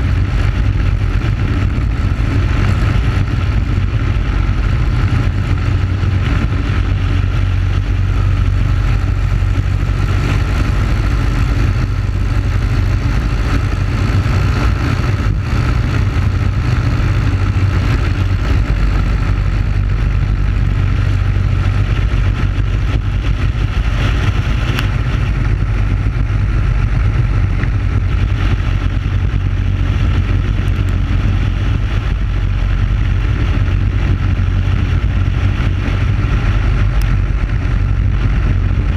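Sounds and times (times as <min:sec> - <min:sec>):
kart engine running at high speed: 0:00.0 - 0:38.9.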